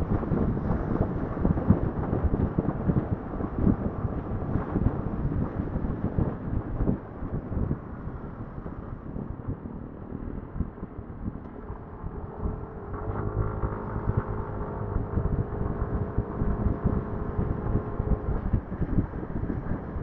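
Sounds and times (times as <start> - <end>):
motorcycle engine drone: 0.0 - 20.0
wind buffeting microphone: 0.0 - 20.0.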